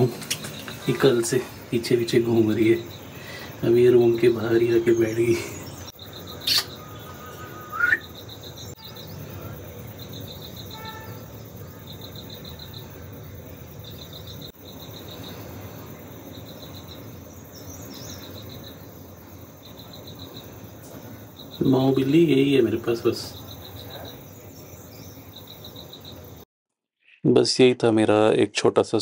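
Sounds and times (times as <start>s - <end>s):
outdoor hiss: 0.0s - 26.4s
insects chirping in pulsed trills: 0.0s - 26.5s.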